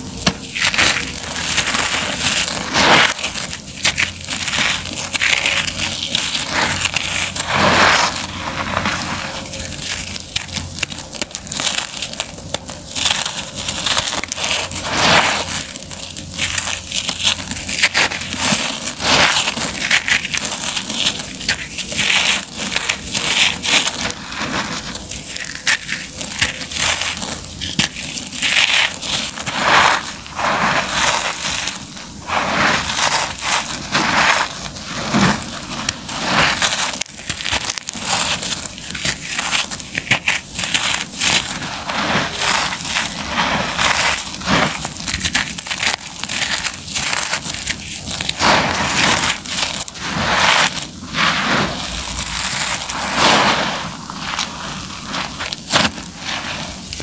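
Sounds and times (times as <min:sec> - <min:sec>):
hands crunching concrete rubble: 0:00.0 - 0:57.0.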